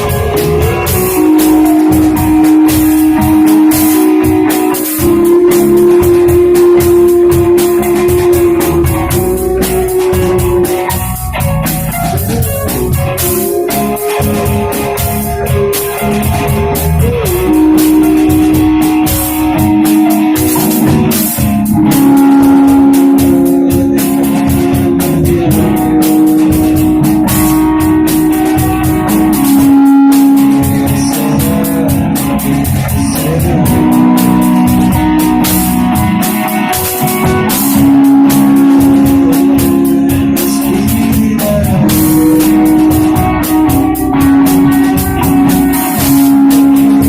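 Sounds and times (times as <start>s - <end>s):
drum kit with cymbal hits: 0.0s - 47.0s
electric guitars sustained notes: 0.0s - 47.0s.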